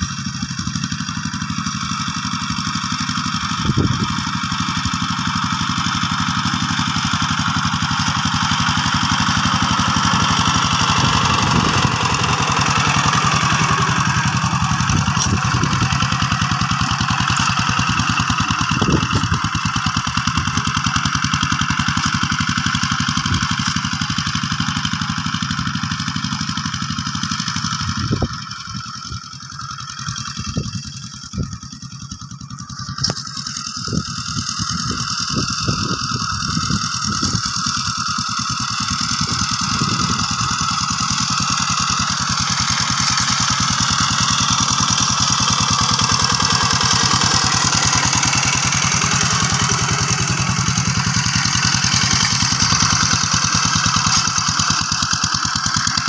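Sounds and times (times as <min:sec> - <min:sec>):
hand tractor engine running: 0:00.0 - 0:56.0.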